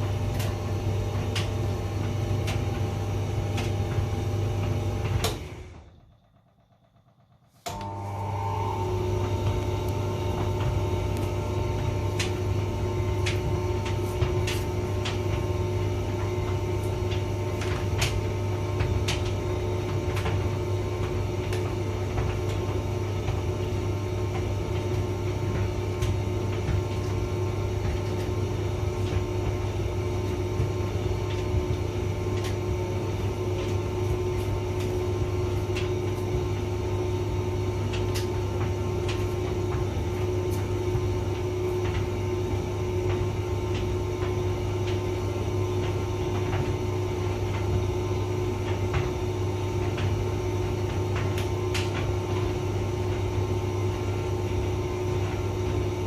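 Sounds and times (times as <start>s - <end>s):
tumble dryer humming: 0.0s - 56.0s.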